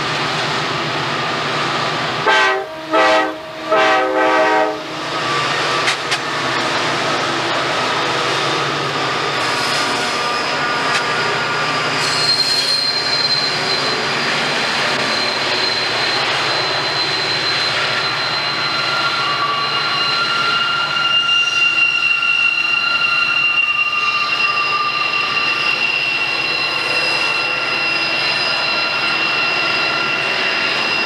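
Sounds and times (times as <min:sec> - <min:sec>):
wheel flanges squealing: 0:05.0 - 0:31.0.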